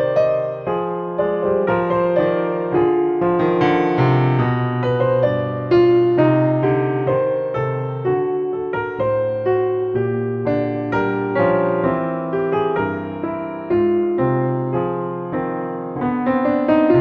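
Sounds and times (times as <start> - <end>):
soft slow piano music: 0.0 - 17.0.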